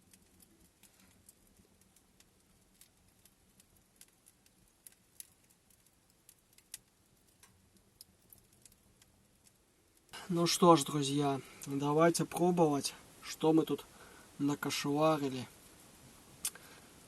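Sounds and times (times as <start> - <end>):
faint small clicks and crackles: 0.0 - 10.3, 11.4 - 17.0.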